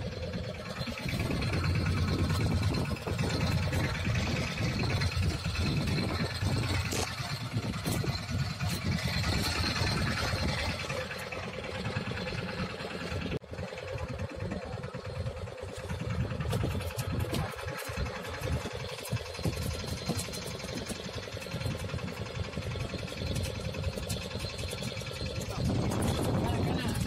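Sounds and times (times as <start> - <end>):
boat engine running: 0.0 - 27.0.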